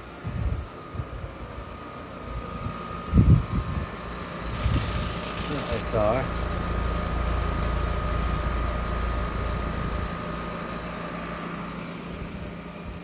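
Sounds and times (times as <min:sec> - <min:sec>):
condensing unit humming: 0:00.0 - 0:13.0.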